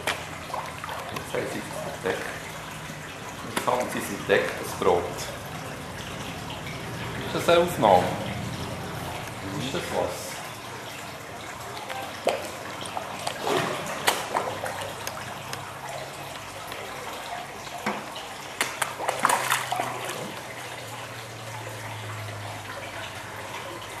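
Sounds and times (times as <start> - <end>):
fish splashing at water surface: 0.0 - 24.0
moving water: 0.0 - 24.0.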